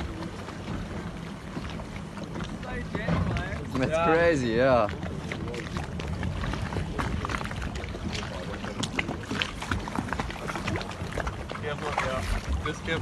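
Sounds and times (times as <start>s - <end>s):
water splashing beside a boat: 0.0s - 13.0s
wind rumble on microphone: 0.0s - 13.0s.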